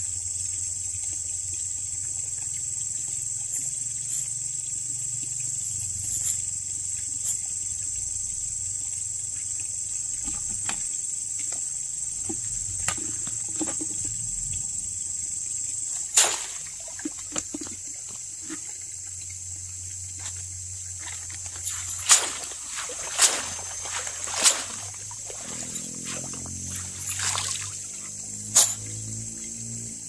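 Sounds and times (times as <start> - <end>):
crickets droning: 0.0 - 30.0.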